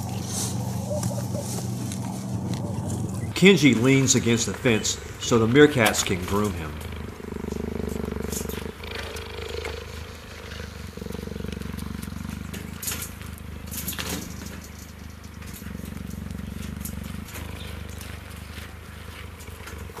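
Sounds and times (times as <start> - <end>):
cheetah purring: 0.0 - 20.0.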